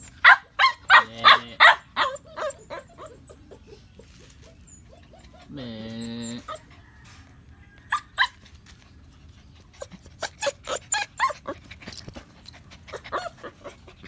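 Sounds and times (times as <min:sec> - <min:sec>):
puppies whimpering and yipping: 0:00.0 - 0:06.8, 0:09.4 - 0:14.0.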